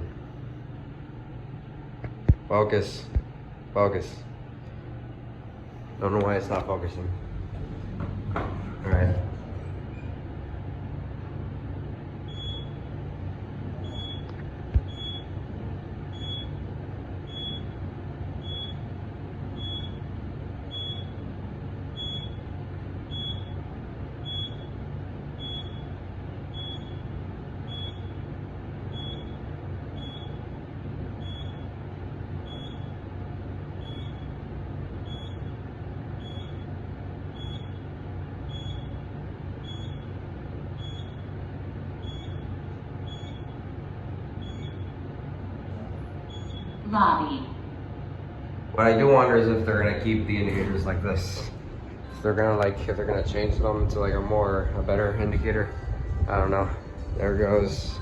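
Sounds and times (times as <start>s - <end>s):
elevator hum and rumble: 0.0s - 58.0s.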